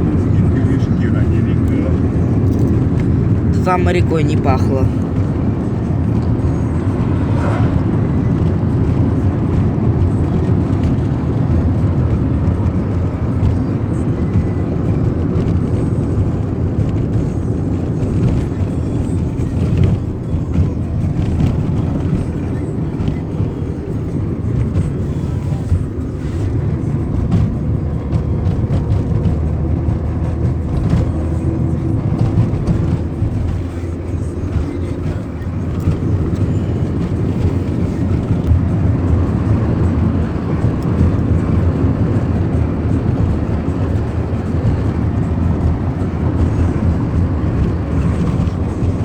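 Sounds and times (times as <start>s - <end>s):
music playing: 0.0s - 49.0s
road and engine rumble: 0.0s - 49.0s.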